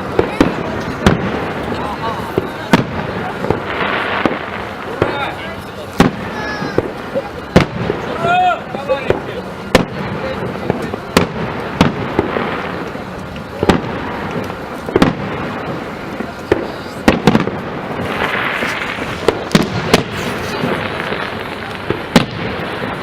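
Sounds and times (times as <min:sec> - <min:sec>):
background rumble and hiss: 0:00.0 - 0:23.0
fireworks bangs: 0:00.0 - 0:23.0.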